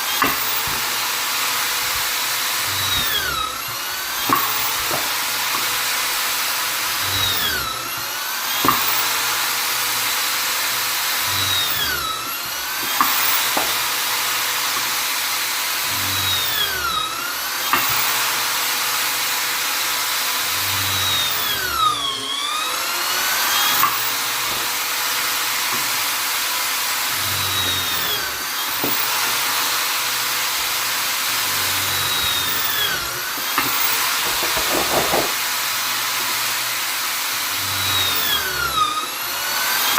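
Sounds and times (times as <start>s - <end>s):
electric drill motor whining: 0.0s - 39.9s.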